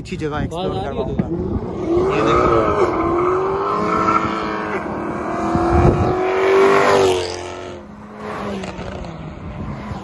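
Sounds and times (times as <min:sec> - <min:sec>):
car speeding past revving: 0:01.3 - 0:10.0.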